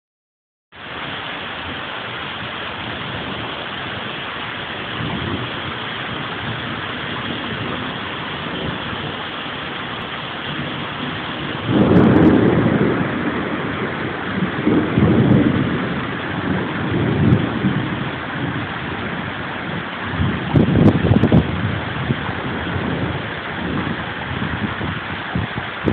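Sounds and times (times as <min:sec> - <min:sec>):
heavy rain hissing: 0:00.7 - 0:25.9
low rumbling: 0:00.8 - 0:25.9.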